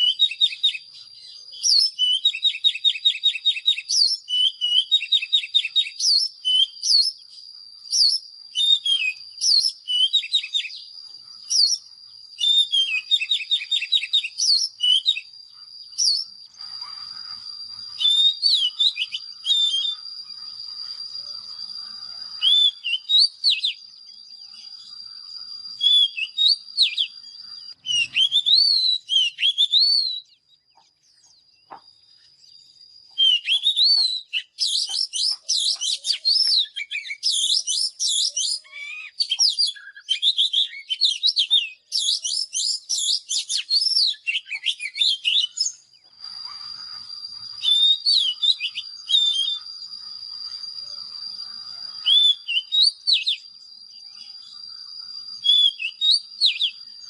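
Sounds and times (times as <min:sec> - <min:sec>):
bird singing whistled phrases: 0:00.0 - 0:57.0
thin steady high tone: 0:00.0 - 0:57.0.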